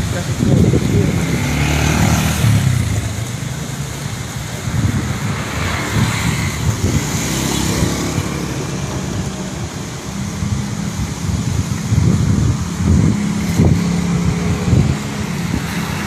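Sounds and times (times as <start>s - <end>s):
road traffic passing: 0.0s - 16.0s
wind rumbling on microphone: 0.0s - 16.0s.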